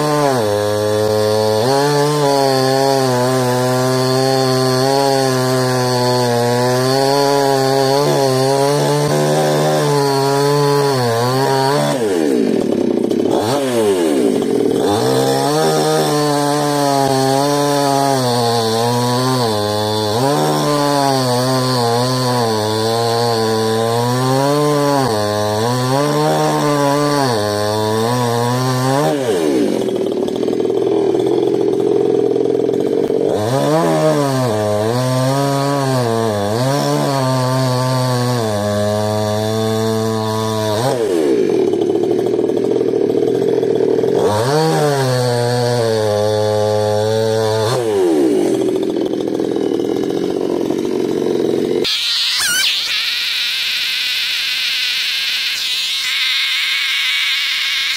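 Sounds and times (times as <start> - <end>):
chainsaw cutting logs: 0.0 - 57.9
chainsaw idling: 0.0 - 57.9.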